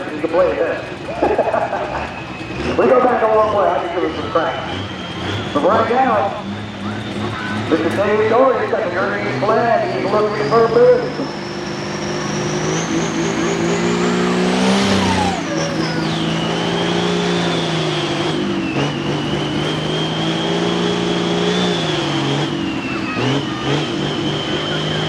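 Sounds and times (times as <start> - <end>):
diesel tractor engine under load: 0.0 - 25.0
turbocharger whistle: 0.3 - 25.0.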